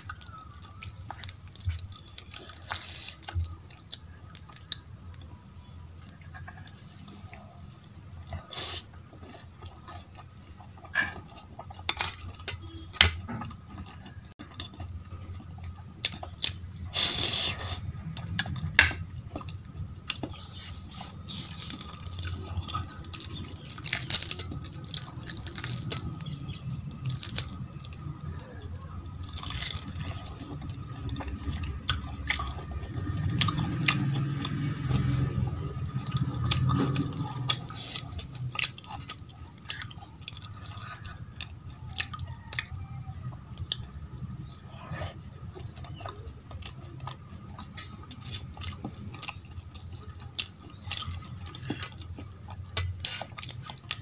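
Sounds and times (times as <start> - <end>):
fingers squishing through curry: 0.0 - 54.0
person chewing food: 0.0 - 54.0.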